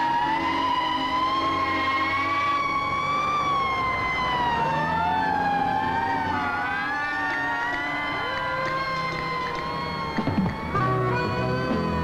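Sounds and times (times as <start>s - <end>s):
sirens wailing: 0.0s - 12.0s.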